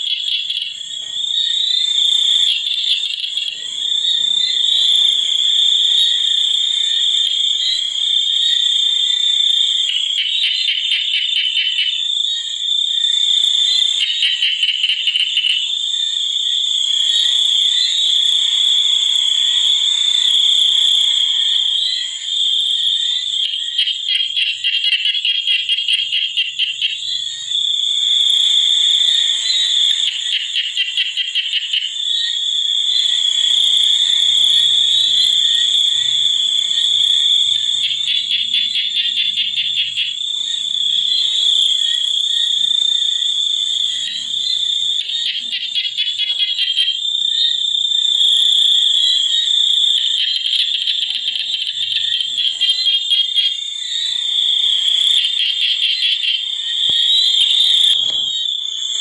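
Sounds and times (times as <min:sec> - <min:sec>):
high-pitched insect trilling: 0:00.0 - 0:15.9, 0:17.0 - 0:59.0
frogs croaking: 0:00.0 - 0:59.0.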